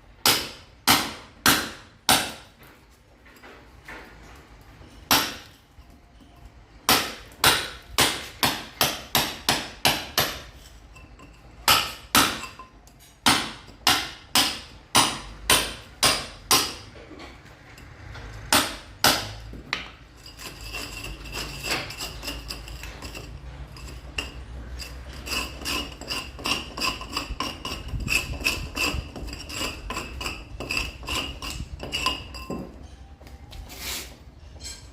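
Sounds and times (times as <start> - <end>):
hammer blows on masonry: 0.2 - 2.7, 6.8 - 10.9, 11.6 - 16.9, 18.3 - 34.9.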